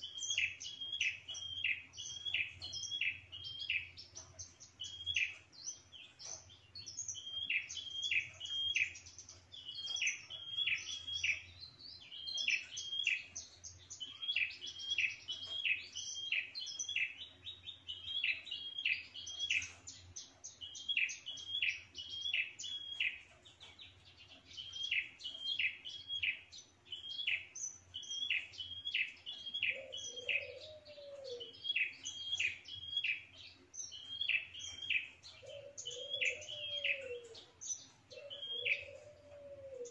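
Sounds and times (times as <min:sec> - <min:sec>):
bird twittering: 0:00.0 - 0:39.9.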